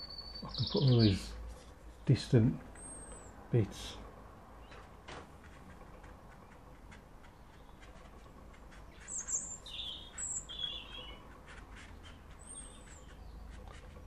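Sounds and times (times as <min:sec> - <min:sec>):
songbird chirping: 0:00.0 - 0:04.0, 0:06.3 - 0:14.0.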